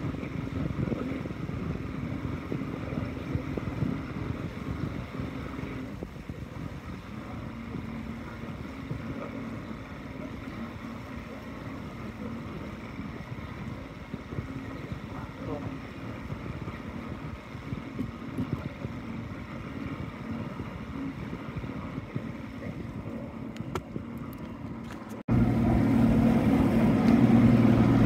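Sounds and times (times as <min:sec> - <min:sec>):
boat motor running: 0:00.0 - 0:28.0
wind buffeting microphone: 0:00.0 - 0:28.0.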